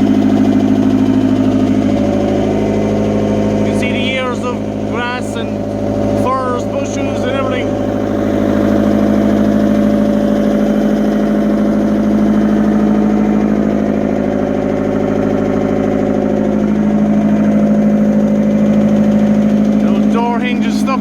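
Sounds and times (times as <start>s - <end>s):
excavator diesel engine idling: 0.0s - 21.0s.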